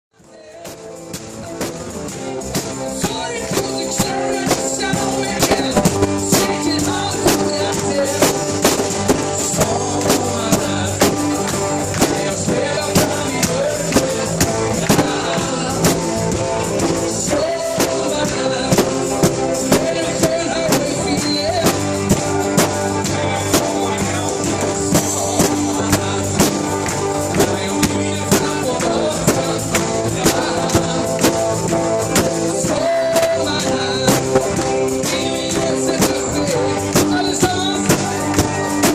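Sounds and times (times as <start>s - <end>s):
guitar: 0.1s - 38.9s
live band playing: 0.2s - 38.9s.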